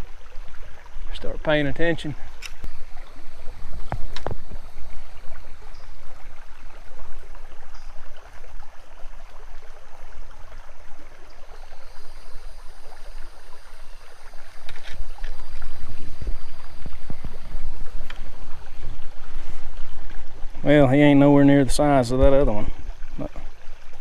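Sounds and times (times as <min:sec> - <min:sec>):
creek water running: 0:00.0 - 0:24.0
low rumble on microphone: 0:02.2 - 0:24.0.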